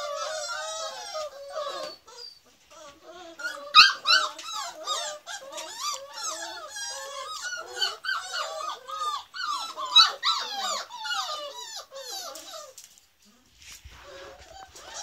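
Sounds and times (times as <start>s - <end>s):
puppy yelp: 0.0s - 12.9s, 14.0s - 15.0s
puppies whining and squealing: 0.0s - 13.0s, 13.9s - 15.0s.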